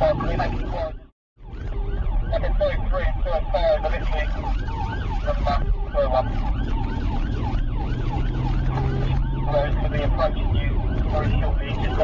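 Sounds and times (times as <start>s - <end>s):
engine and road rumble: 0.0s - 12.0s
police siren yelp: 0.0s - 12.0s.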